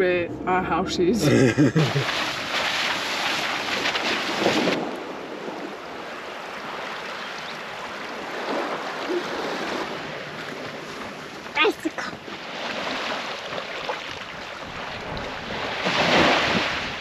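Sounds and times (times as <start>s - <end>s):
wind: 0.0s - 17.0s
sea: 1.2s - 17.0s
tyres splashing through puddles: 1.3s - 17.0s.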